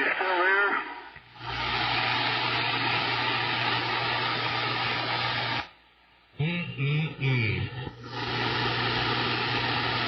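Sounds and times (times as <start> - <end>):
radio static hiss: 0.0 - 5.8, 6.4 - 10.0.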